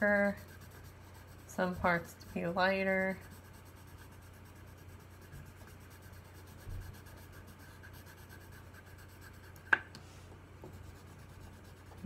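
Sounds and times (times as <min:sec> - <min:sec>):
pencil scratching on paper: 0:00.0 - 0:09.8, 0:10.7 - 0:12.0.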